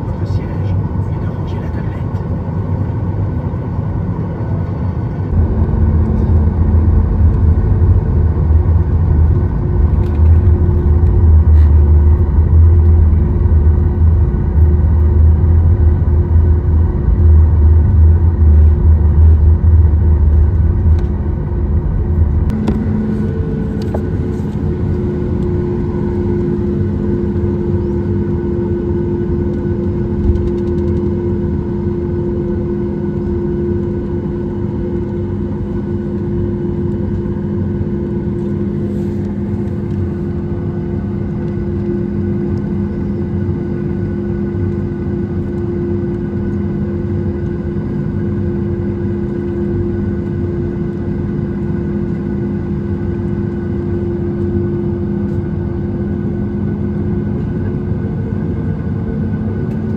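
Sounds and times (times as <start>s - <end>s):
jet engines low rumble: 0.0s - 59.9s
steady hum with held tone: 2.2s - 59.9s.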